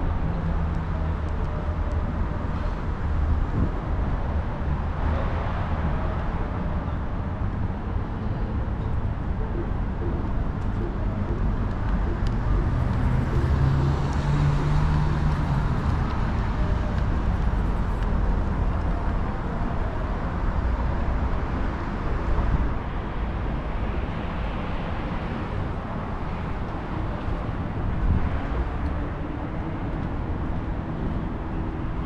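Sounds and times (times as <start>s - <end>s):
low engine drone: 0.0s - 32.0s
passing cars: 0.0s - 32.0s.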